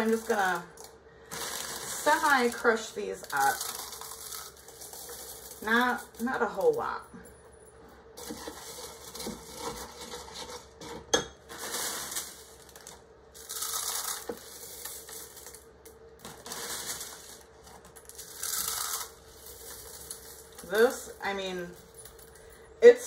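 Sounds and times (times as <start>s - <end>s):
corn flakes crunching: 0.0s - 6.8s, 8.2s - 22.5s.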